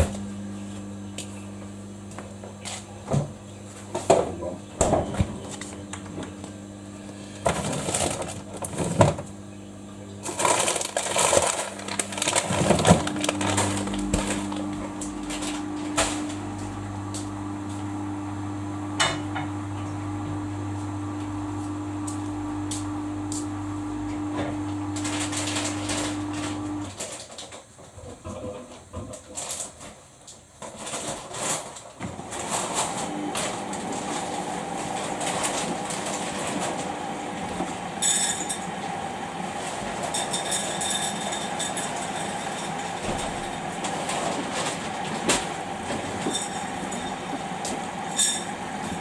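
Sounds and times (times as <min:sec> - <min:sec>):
washing machine motor humming: 0:00.0 - 0:27.2, 0:32.0 - 0:49.0.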